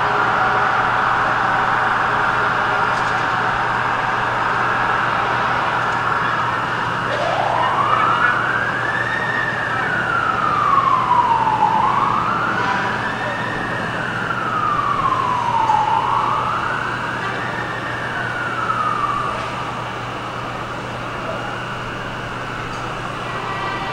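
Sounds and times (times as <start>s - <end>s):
emergency vehicle siren wailing: 0.0s - 23.9s
steady background noise: 0.0s - 23.9s.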